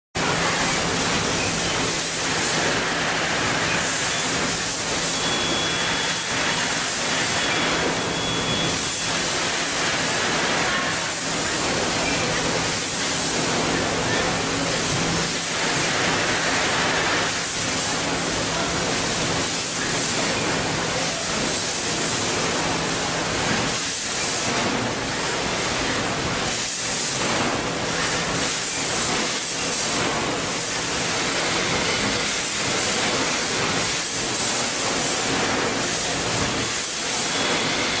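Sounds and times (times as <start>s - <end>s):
packaging machine hissing: 0.8s - 38.0s.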